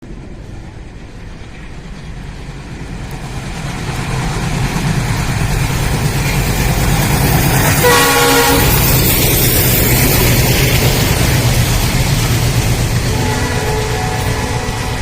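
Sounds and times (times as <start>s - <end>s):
diesel locomotive engines rumbling: 0.0s - 15.0s.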